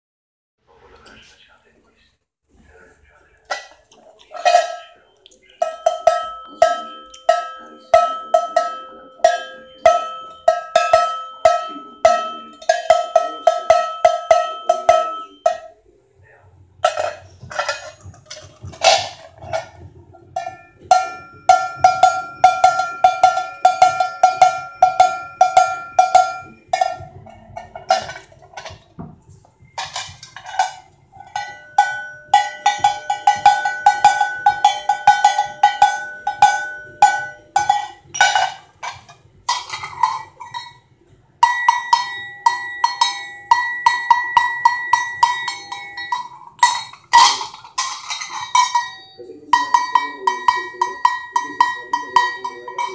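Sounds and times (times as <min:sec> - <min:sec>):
cowbells clanking: 0:03.5 - 0:15.8, 0:16.8 - 0:52.9.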